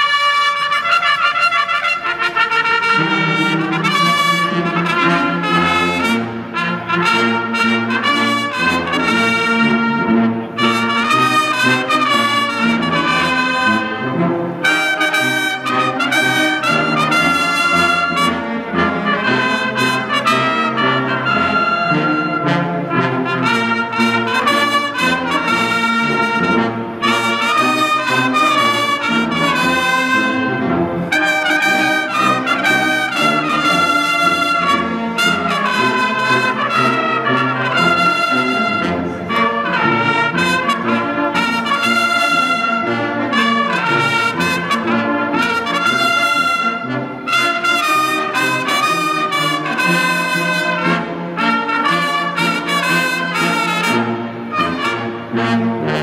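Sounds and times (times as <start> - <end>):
military brass band playing: 0.0 - 56.0.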